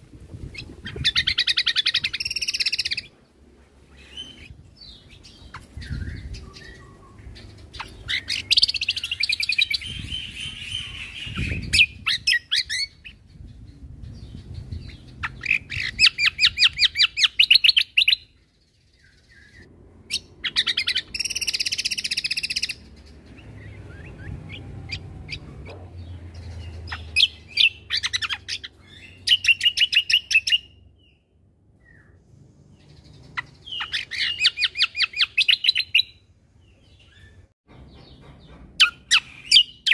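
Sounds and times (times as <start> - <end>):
songbird chattering: 0.5 - 3.1, 3.9 - 30.8, 32.8 - 39.9.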